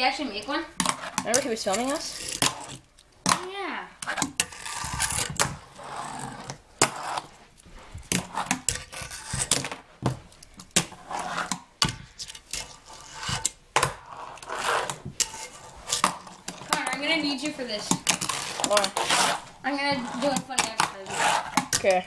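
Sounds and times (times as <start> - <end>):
fingerboard wheels scraping: 0.2 - 3.4, 4.0 - 10.0, 10.8 - 22.0.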